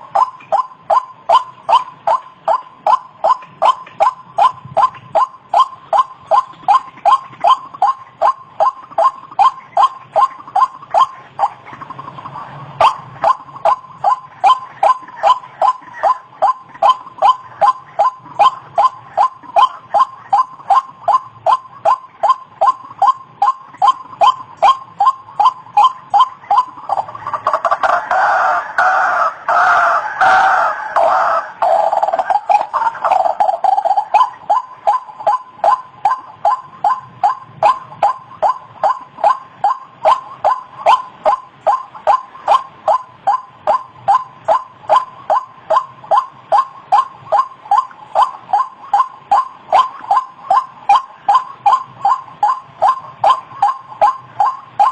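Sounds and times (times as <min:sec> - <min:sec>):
waterhen calling: 0:00.0 - 0:54.9.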